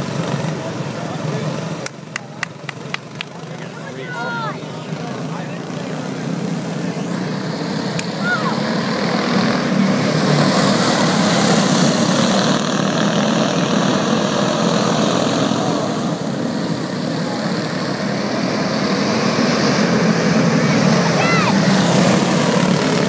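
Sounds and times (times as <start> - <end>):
small race car engines buzzing: 0.0 - 23.0.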